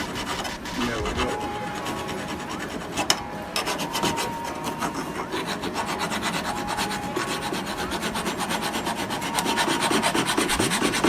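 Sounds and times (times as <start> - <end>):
hand file rasping on steel blade: 0.0 - 11.0.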